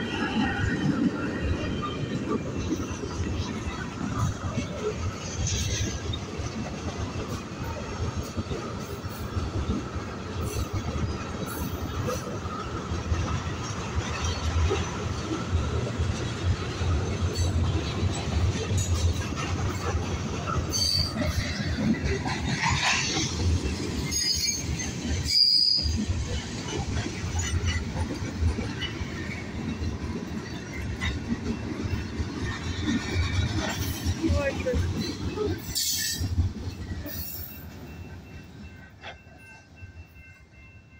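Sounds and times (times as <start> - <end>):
wheels clattering over rail joints: 0.0 - 39.5
train wheels rumbling on rail: 0.0 - 40.9.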